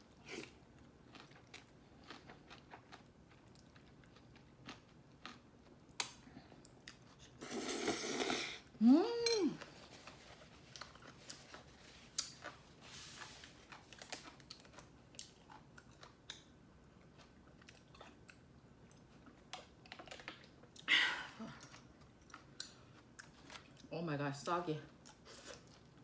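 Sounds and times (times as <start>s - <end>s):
quiet chewing: 0.2s - 8.4s, 9.3s - 23.9s.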